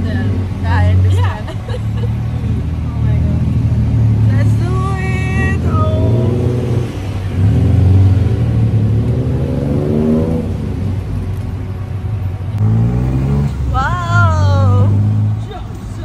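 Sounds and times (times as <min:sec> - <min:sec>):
tuk-tuk engine revving: 0:00.0 - 0:16.0.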